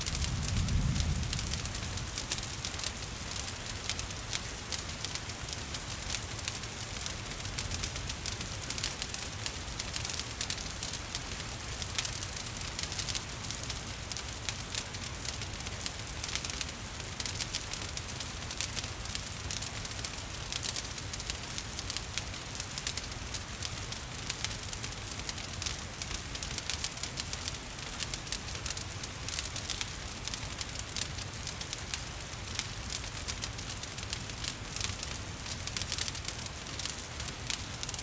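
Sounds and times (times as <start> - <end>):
gentle rain: 0.0 - 38.0
wood fire crackling: 0.0 - 38.0.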